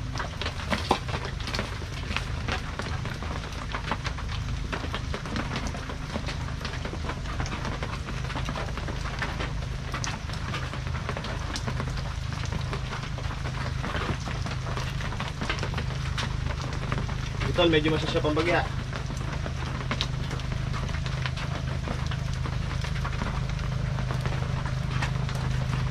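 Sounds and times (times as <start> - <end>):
rain on a metal roof: 0.0 - 25.9
steady low hum: 0.0 - 25.9.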